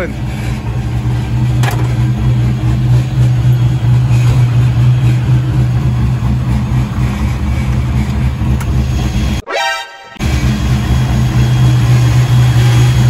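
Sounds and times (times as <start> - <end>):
car engine idling: 0.0 - 9.4, 10.2 - 13.0.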